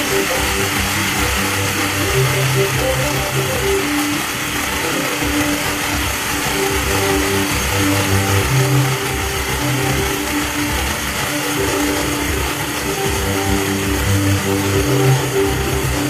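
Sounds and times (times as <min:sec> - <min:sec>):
background music with bass line: 0:00.0 - 0:16.0
steady noisy wash: 0:00.0 - 0:16.0.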